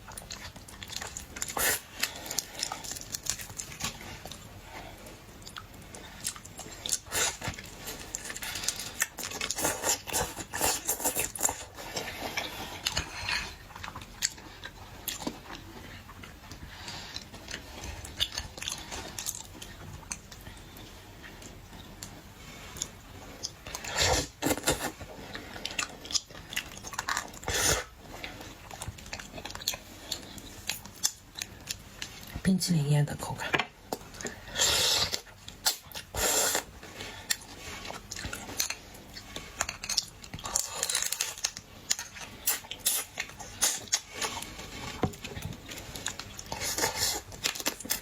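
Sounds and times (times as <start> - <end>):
person chewing shellfish: 0.0 - 32.3, 33.8 - 48.0.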